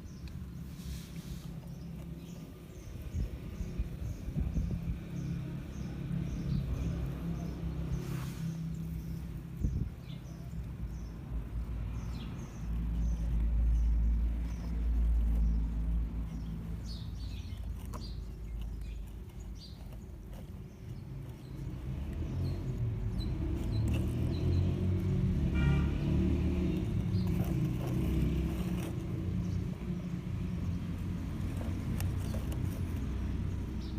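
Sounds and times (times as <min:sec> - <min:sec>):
birds chirping: 0:00.0 - 0:33.9
vehicle engine low rumble: 0:00.0 - 0:33.9.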